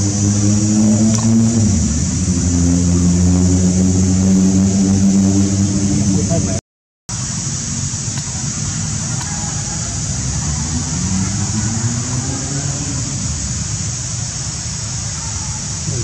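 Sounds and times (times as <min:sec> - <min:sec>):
rough engine rumble: 0:00.0 - 0:16.0
vehicle engine running: 0:00.0 - 0:16.0.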